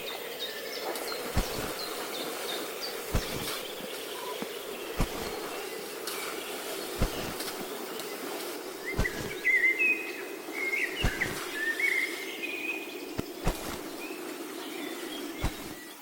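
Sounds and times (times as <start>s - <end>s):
birds chirping and warbling: 0.0s - 16.0s
insects humming: 0.0s - 16.0s.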